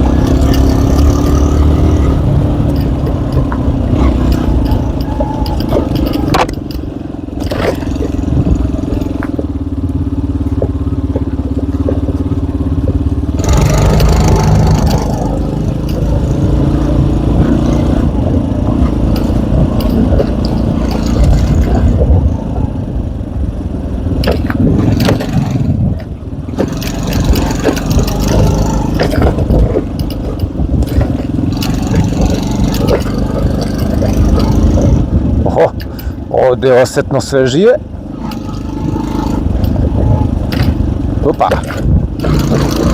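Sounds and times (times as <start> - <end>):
motorcycle engine climbing: 0.0 - 42.9.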